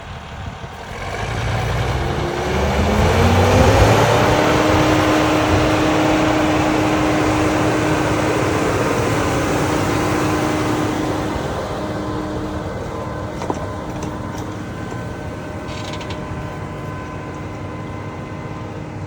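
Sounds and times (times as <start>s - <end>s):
tractor engine revving: 0.0s - 19.0s.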